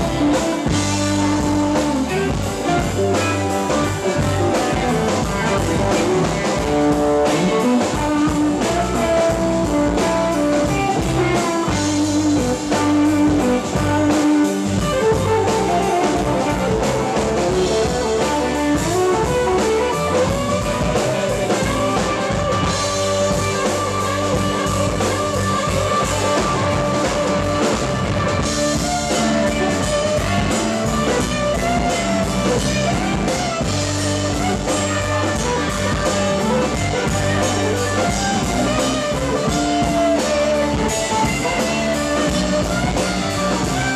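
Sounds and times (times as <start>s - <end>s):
drum kit: 0.0s - 43.9s
electric guitar lines: 0.0s - 43.9s
keyboard: 0.0s - 43.9s.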